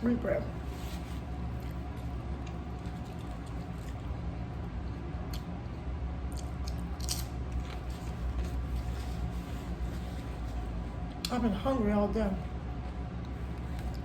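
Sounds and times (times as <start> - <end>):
steady low hum: 0.0 - 14.0
person chewing a sandwich: 0.7 - 11.3, 12.8 - 14.0.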